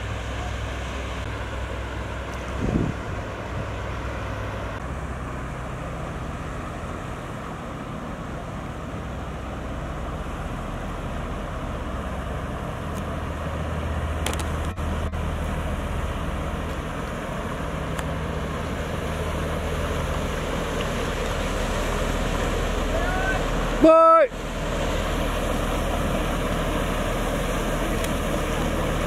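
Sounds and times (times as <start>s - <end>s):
ship diesel engine drone: 0.0s - 29.0s
wind and water rushing: 0.0s - 29.0s.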